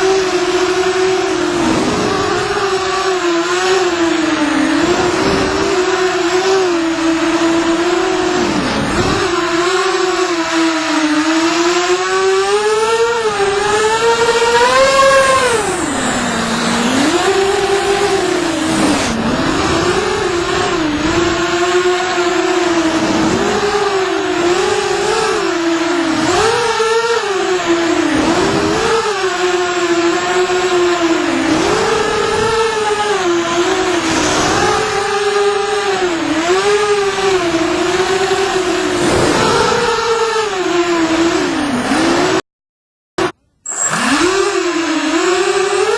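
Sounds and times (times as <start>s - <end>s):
quadcopter motors whining: 0.0s - 42.4s, 43.2s - 45.9s.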